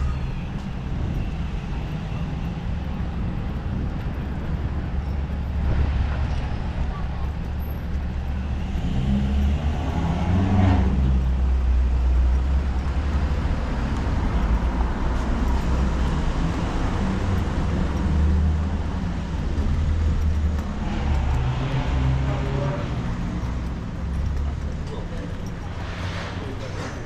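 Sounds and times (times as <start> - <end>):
car driving slowly past: 0.0 - 27.0
low traffic rumble: 0.0 - 27.0.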